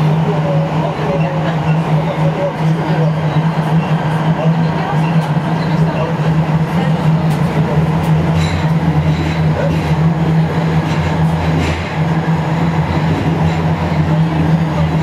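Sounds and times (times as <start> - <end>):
train running hum and rumble: 0.0 - 15.0.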